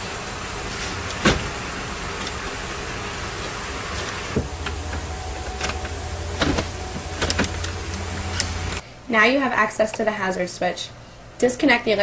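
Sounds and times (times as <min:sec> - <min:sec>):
steady hiss and low hum: 0:00.0 - 0:12.0.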